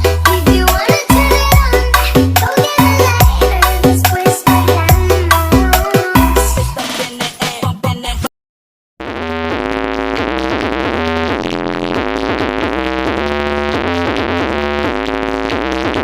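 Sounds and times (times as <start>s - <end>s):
electronic dance music: 0.0s - 8.3s, 9.0s - 16.0s.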